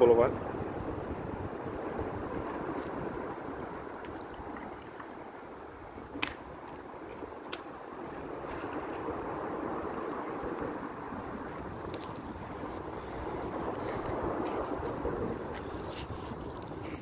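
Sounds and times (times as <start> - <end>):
wind buffeting microphone: 0.0 - 17.0
flowing river water: 0.4 - 17.0.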